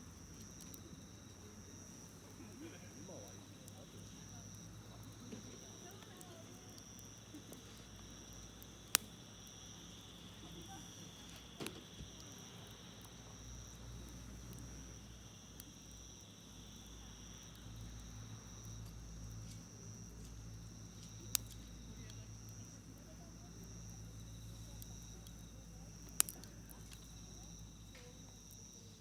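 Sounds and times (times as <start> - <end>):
campfire wood crackling: 0.0 - 29.0
insects trilling: 0.0 - 29.0.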